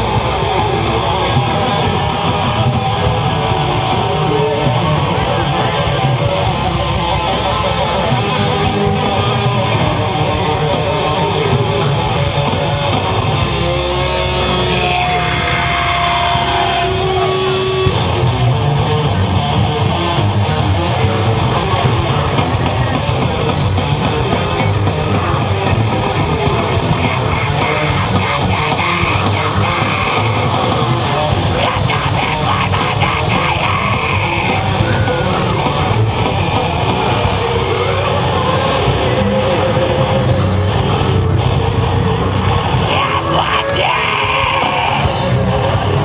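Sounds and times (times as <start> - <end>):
distorted heavy rock music: 0.0 - 46.0.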